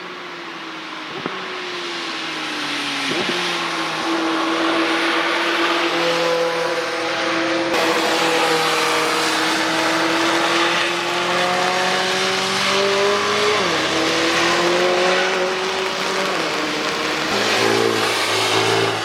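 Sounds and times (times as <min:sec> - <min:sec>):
rain and tyre spray hiss: 0:01.3 - 0:19.0
car engine revving: 0:03.0 - 0:19.0.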